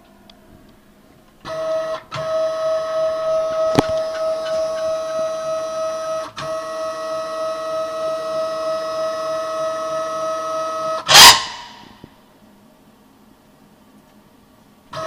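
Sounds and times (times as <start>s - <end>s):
machine drive high whine: 0.0s - 12.3s.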